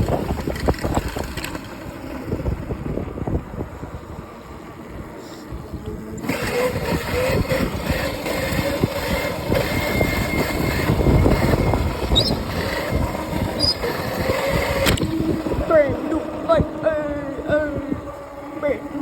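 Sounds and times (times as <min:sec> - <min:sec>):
electric motor whine: 0:00.0 - 0:19.0
wind on microphone: 0:00.0 - 0:19.0.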